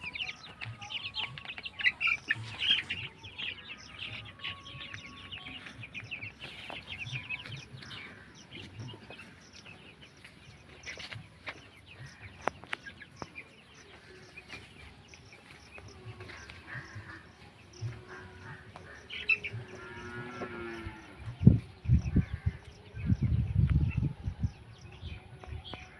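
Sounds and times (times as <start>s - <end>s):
chickens chirping and calling: 0.0s - 25.9s.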